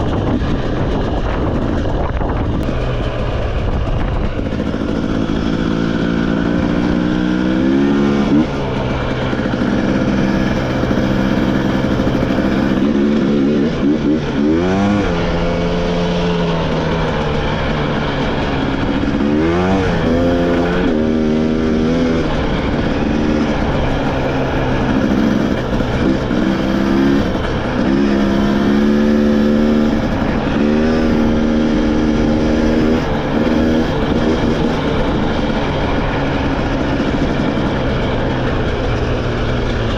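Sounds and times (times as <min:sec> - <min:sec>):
motorcycle engine revving: 0:00.0 - 0:39.9
rushing noise: 0:00.0 - 0:39.9.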